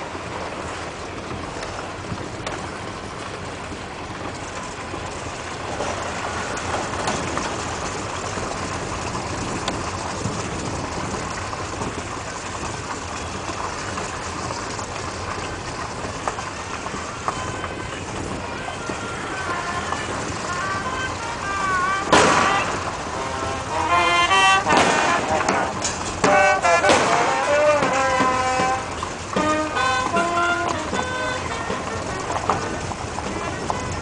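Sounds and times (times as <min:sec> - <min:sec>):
vehicle engine and road noise: 0:00.0 - 0:34.0.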